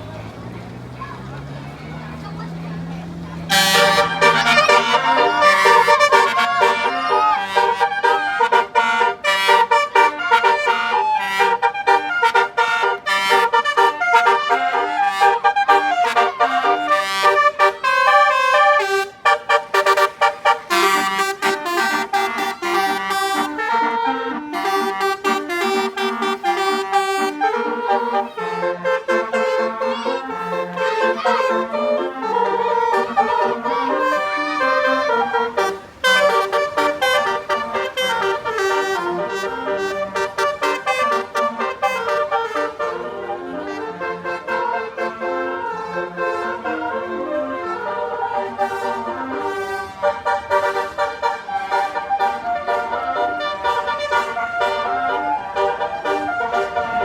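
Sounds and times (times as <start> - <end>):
musical air horn melody: 3.1 - 57.0.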